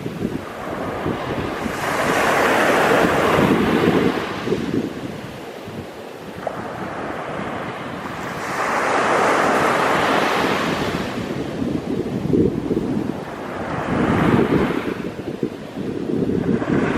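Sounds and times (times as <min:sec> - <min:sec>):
ocean surf on a beach: 0:00.0 - 0:16.9
wind buffeting microphone: 0:00.0 - 0:16.9.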